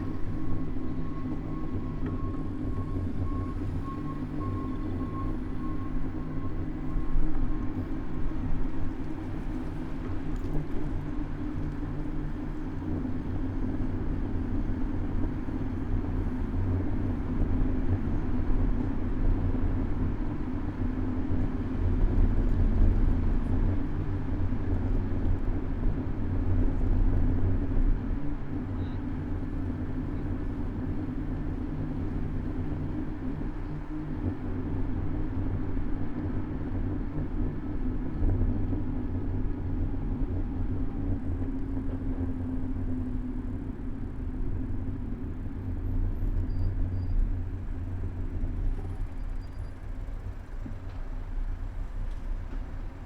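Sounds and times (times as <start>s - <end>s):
city road traffic rumble: 0.0s - 53.0s.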